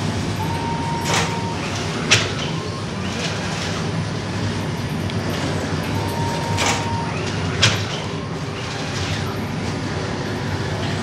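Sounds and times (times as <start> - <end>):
bakery machinery droning: 0.0 - 11.0.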